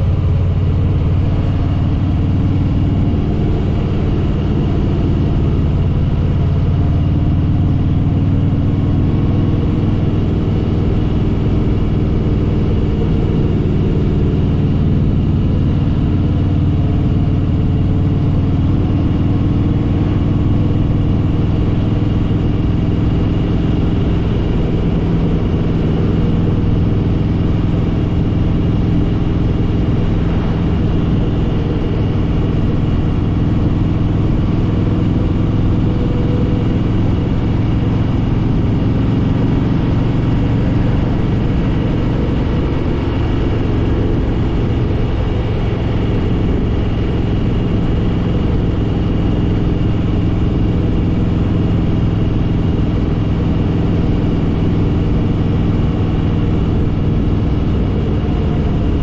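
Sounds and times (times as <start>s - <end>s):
motorcycle engine running steadily: 0.0s - 59.0s.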